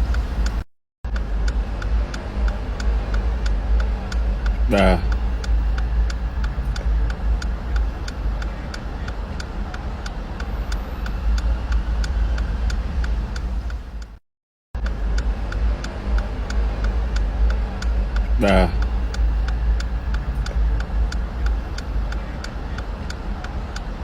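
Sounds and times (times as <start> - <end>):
road traffic rumble: 0.0 - 14.1, 14.8 - 24.0
even ticking: 1.1 - 14.2, 14.8 - 23.9.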